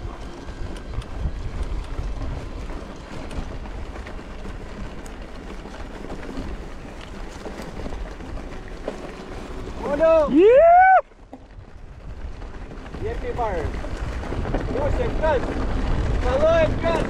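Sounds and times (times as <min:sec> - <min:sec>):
bike clicks and rattles: 0:00.0 - 0:17.0
tyres rumbling on dirt: 0:00.0 - 0:17.0
wind buffeting microphone: 0:00.0 - 0:17.0.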